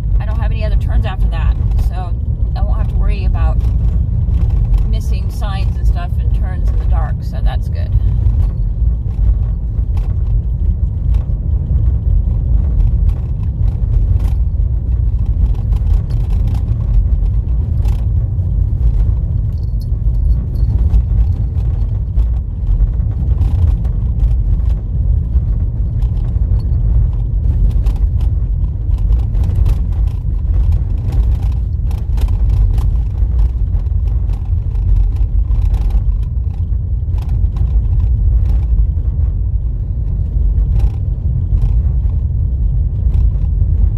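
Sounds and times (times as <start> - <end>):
tyres rumbling on dirt road: 0.0 - 43.9.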